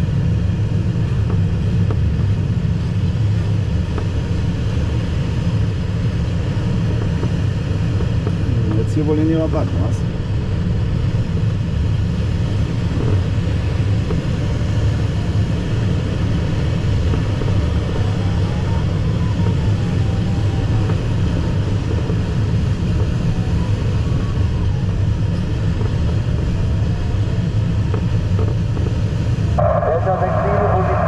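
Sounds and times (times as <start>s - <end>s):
cockpit airflow rumble: 0.0s - 31.0s.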